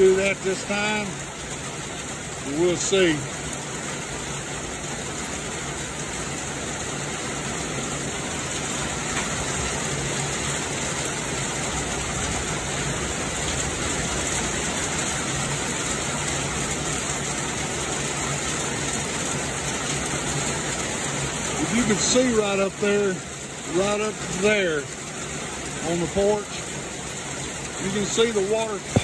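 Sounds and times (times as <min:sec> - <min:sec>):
heavy rain on tent canopy: 0:00.0 - 0:29.0
water pouring off canopy: 0:00.0 - 0:29.0.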